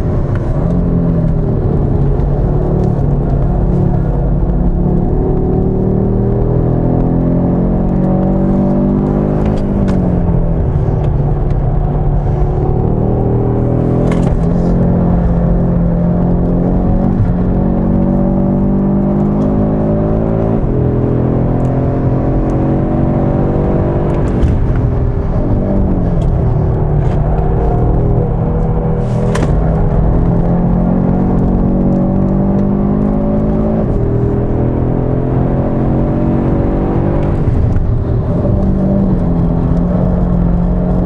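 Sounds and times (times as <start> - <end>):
car engine accelerating hard: 0.0 - 41.0.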